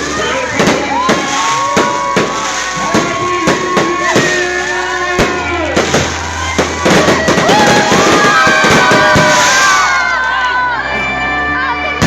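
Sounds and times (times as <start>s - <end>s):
firework bangs: 0.0s - 10.1s
fireworks crackling: 0.0s - 10.4s.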